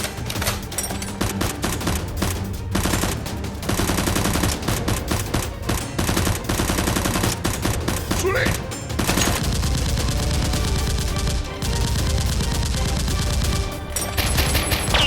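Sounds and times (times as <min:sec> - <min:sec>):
automatic gunfire: 0:01.2 - 0:15.0.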